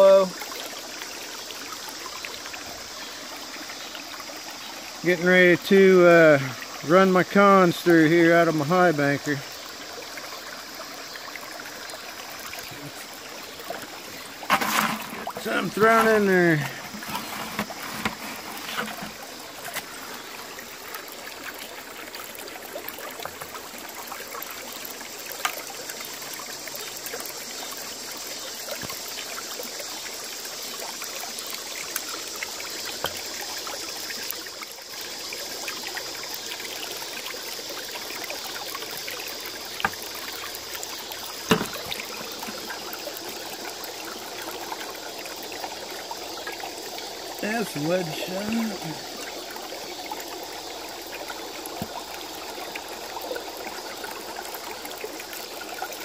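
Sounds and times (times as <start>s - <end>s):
water rushing through sluice box: 0.0s - 56.0s.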